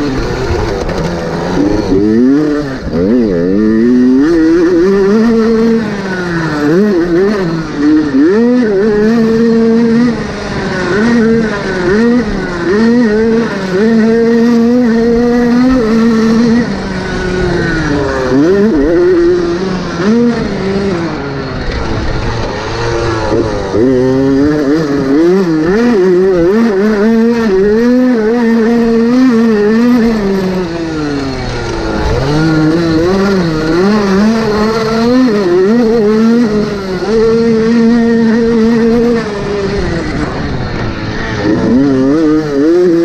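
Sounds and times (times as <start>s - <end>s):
motocross motorcycle engine revving: 0.0s - 43.0s.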